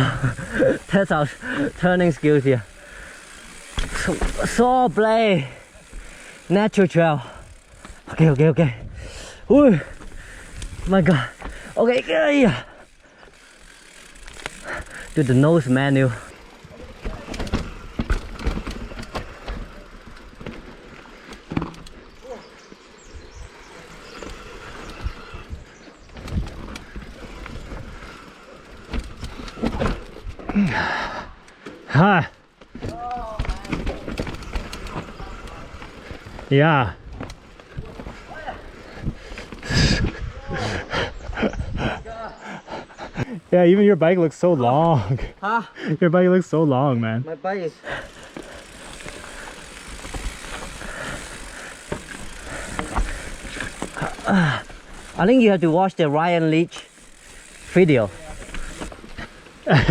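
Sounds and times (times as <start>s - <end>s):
bike knocking and rattling: 0.0s - 8.8s, 9.6s - 40.4s, 47.9s - 59.9s
bike tyres rolling on dirt: 0.0s - 45.4s, 46.2s - 59.9s.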